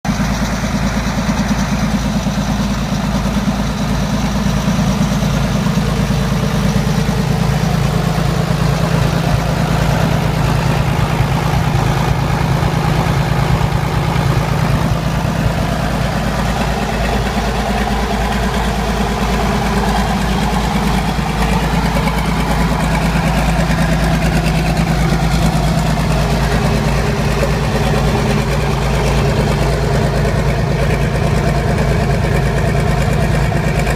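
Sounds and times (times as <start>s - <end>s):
marine diesel engine idling: 0.0s - 33.9s.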